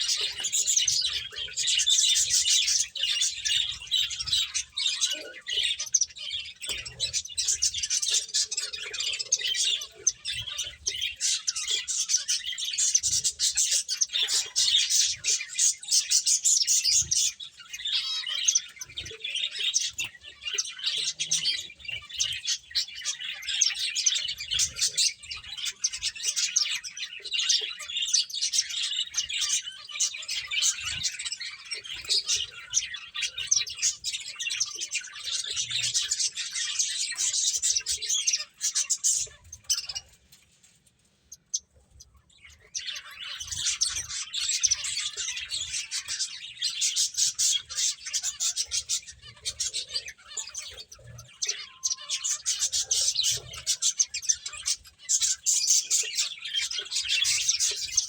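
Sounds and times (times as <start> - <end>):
finches chirping: 0.0 - 40.3, 41.3 - 58.0.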